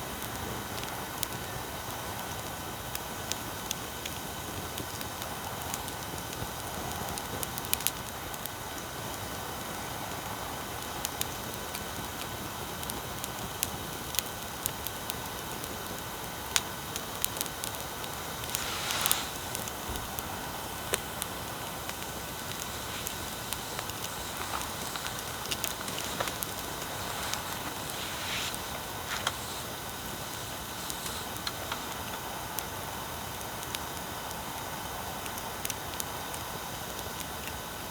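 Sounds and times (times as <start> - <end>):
bonfire crackling and popping: 0.0 - 37.9
electronic hiss: 0.0 - 37.9.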